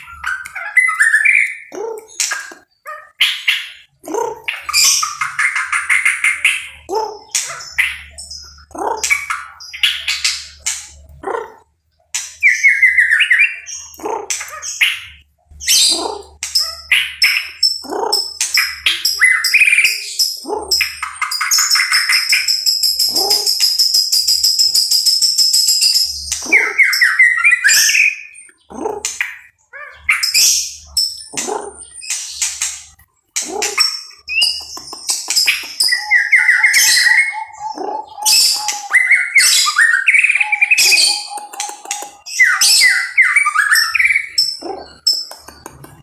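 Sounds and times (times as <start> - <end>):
songbird singing: 0.0 - 46.0.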